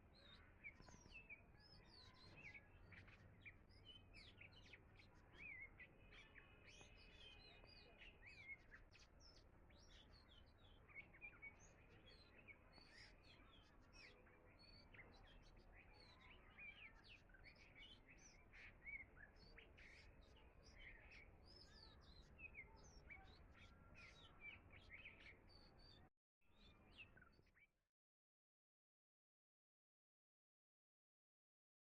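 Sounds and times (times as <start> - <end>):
small birds chirping and trilling: 0.0 - 27.7.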